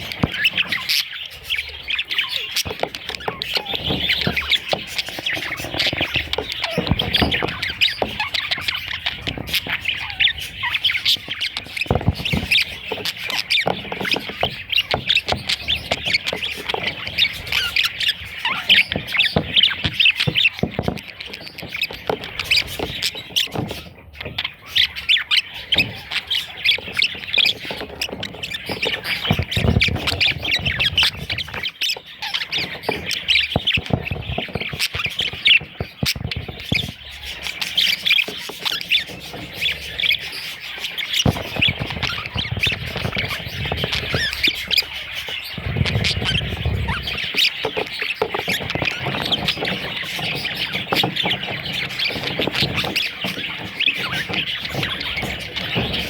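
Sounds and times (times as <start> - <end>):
budgerigar chicks chirping: 0.0 - 56.0.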